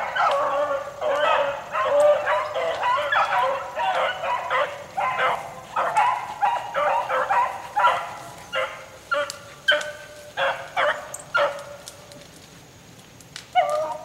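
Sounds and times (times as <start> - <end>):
beagles baying: 0.0 - 12.1, 13.5 - 14.0.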